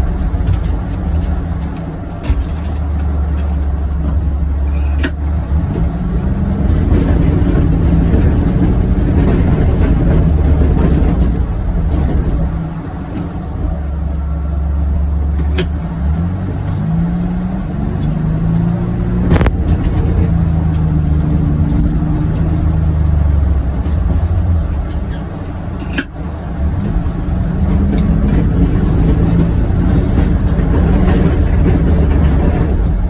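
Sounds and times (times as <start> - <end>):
sharp knocks and rattles: 0.0 - 13.8, 17.9 - 33.0
utility vehicle engine running: 0.0 - 33.0.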